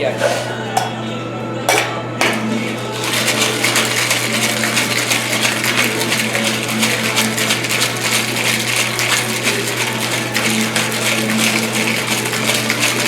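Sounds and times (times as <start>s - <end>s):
ice rattling in cocktail shaker: 0.0s - 1.0s, 2.2s - 13.0s.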